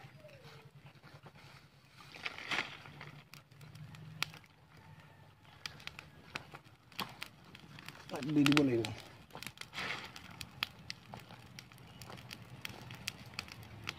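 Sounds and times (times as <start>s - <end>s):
twig fire crackling: 0.0s - 13.9s
sharp pops from fire: 2.0s - 13.9s.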